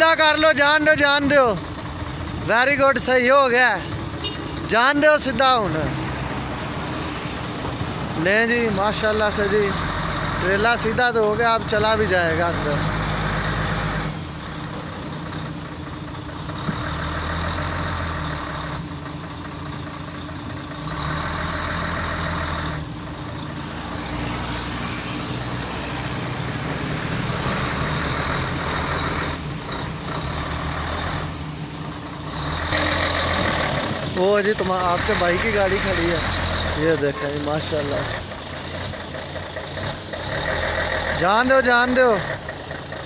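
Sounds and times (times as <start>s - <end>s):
diesel truck engine revving: 0.0s - 43.0s.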